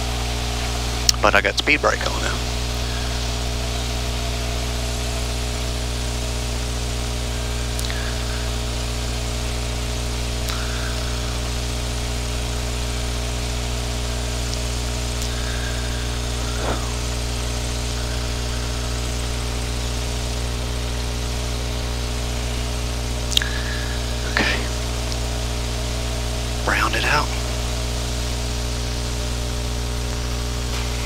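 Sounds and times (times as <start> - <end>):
aircraft engine and propeller droning: 0.0 - 31.0.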